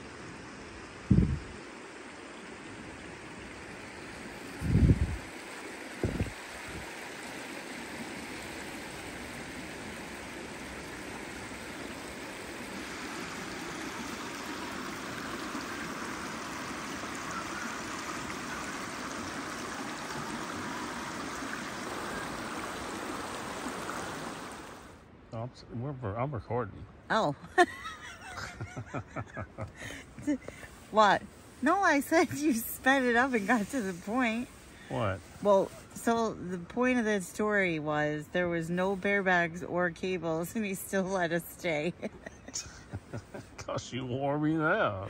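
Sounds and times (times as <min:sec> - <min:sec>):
creek flowing: 0:00.0 - 0:25.2, 0:27.1 - 0:45.0.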